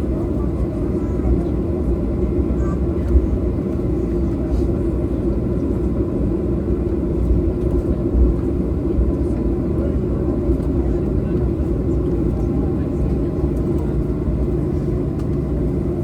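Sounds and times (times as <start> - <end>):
jet engine cabin rumble: 0.0 - 16.0.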